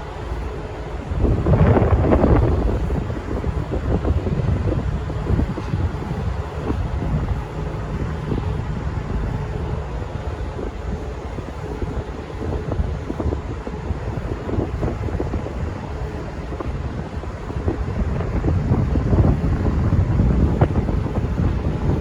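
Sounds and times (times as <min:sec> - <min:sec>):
train rumbling: 0:00.0 - 0:22.0
wind buffeting microphone: 0:00.0 - 0:22.0.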